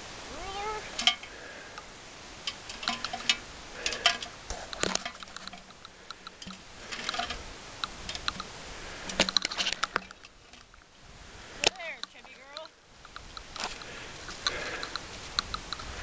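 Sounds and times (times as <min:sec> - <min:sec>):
dry twigs crackling and snapping: 0:01.0 - 0:10.9, 0:11.6 - 0:15.9.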